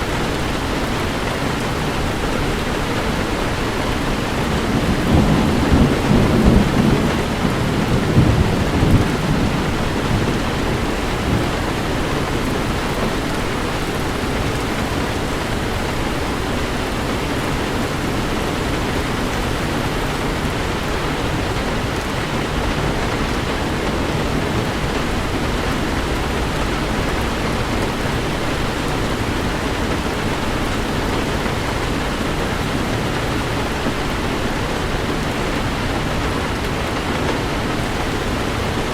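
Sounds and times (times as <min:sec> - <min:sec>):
heavy rain on a car: 0:00.0 - 0:38.9
thunder rumble: 0:00.0 - 0:38.9.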